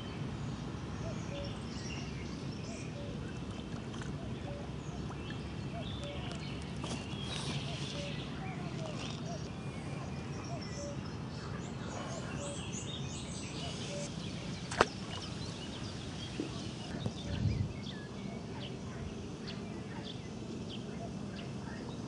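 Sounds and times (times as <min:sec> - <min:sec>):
low outdoor background: 0:00.0 - 0:22.0
small birds chirping: 0:00.0 - 0:22.0.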